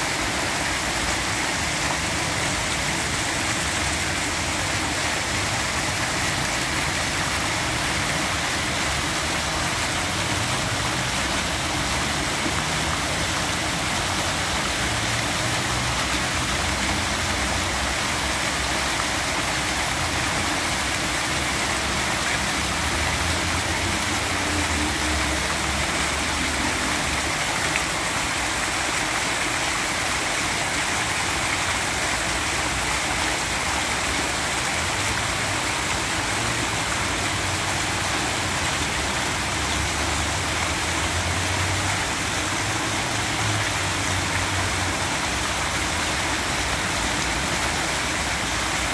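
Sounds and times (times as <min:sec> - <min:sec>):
fountain water splashing: 0:00.0 - 0:48.9.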